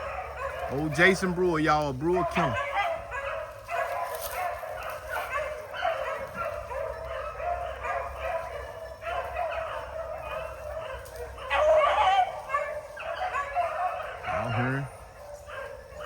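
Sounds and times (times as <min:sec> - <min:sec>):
hound baying: 0:00.0 - 0:16.0.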